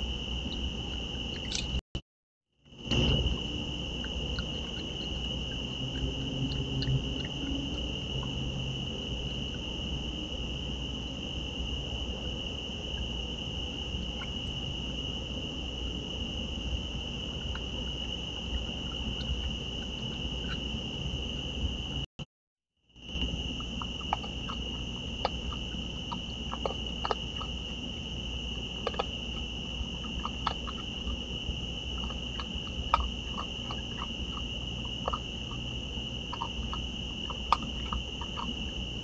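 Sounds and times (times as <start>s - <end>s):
night insects trilling: 0.0s - 1.8s, 2.7s - 22.1s, 22.9s - 39.0s.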